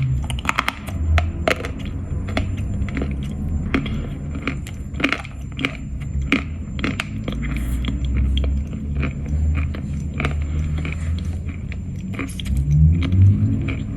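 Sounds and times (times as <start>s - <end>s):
chalk crunching when chewed: 0.0s - 13.9s
low rumble: 0.0s - 13.9s.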